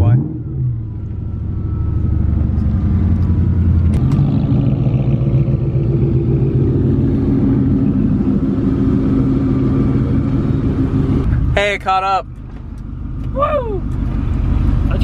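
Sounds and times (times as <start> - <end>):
car engine drone inside cabin: 0.0 - 15.0
car engine idling with low burble: 0.0 - 15.0.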